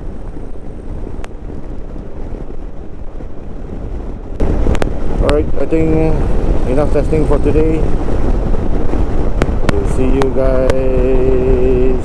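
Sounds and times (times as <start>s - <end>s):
motorcycle ride rumble: 0.0s - 12.0s
wind rushing over microphone: 0.0s - 12.0s.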